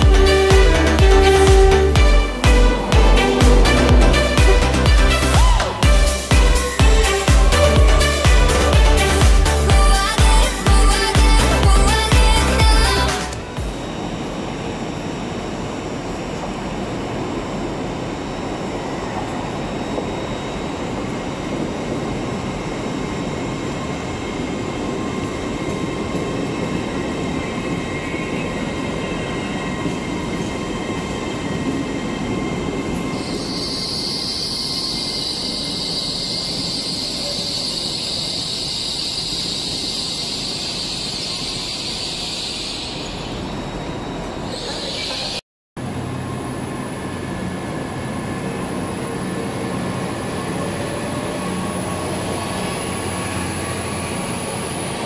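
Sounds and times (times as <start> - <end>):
high-pitched train squeal: 0.0 - 8.3, 18.3 - 45.4, 46.1 - 55.0
train rumbling: 0.0 - 55.0.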